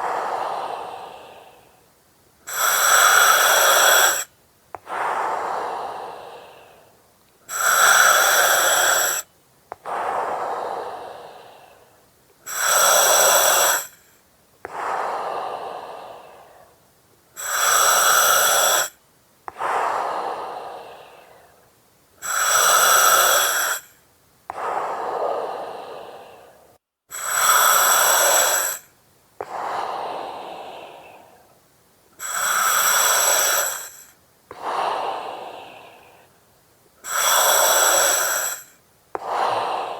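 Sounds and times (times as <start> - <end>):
breathing through oxygen mask: 0.0 - 1.8, 2.5 - 6.9, 7.5 - 16.8, 17.4 - 21.6, 22.2 - 31.5, 32.2 - 36.4, 37.0 - 39.9.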